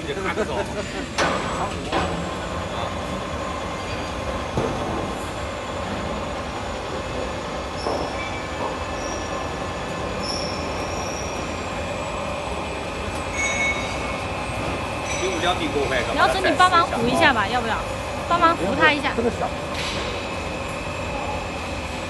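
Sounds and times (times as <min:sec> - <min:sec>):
high machine whine: 0:00.0 - 0:22.0
metal forming machine running: 0:00.0 - 0:22.0.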